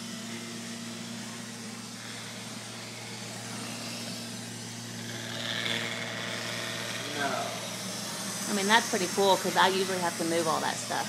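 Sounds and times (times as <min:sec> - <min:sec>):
robot vacuum humming: 0:00.0 - 0:11.0.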